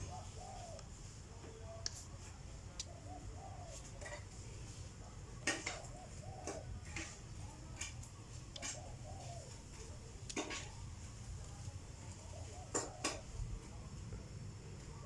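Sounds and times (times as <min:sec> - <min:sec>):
soft low cooing calls: 0:00.0 - 0:01.8, 0:02.5 - 0:04.6, 0:05.5 - 0:15.0.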